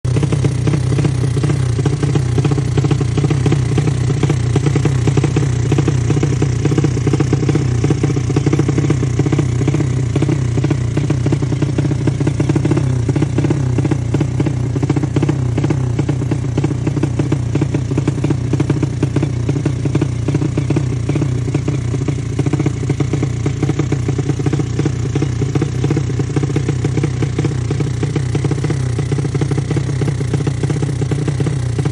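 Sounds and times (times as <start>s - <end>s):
motorcycle engine idling loudly: 0.0s - 31.9s.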